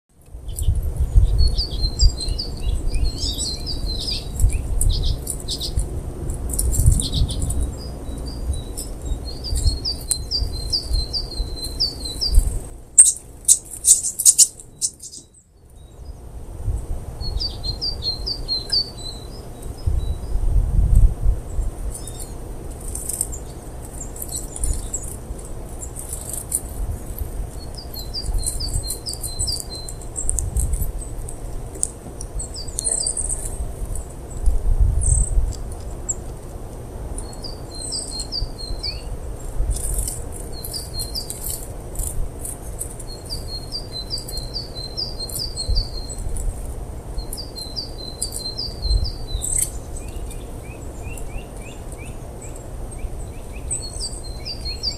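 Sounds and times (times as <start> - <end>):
songbird calling: 0.4 - 5.8, 6.6 - 16.2, 17.2 - 20.4, 21.5 - 36.4, 37.2 - 54.9.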